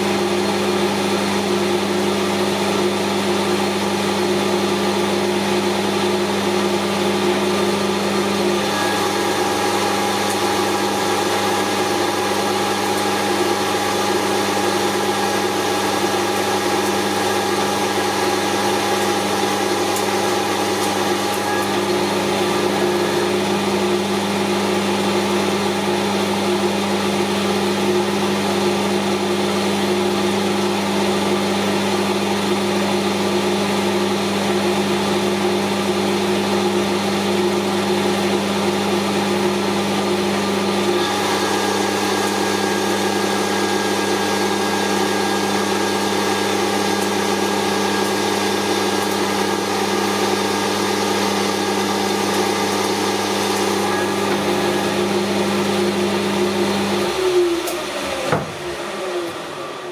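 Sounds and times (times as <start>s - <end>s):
metal lathe hum: 0.0s - 59.9s.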